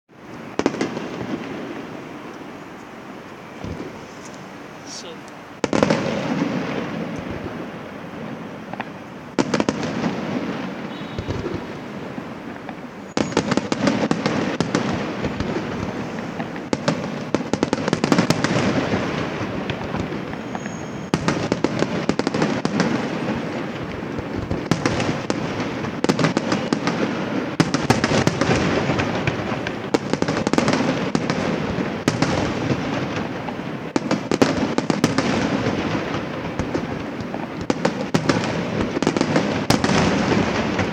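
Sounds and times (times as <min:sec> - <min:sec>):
fireworks bursting and crackling: 0:00.1 - 0:40.9.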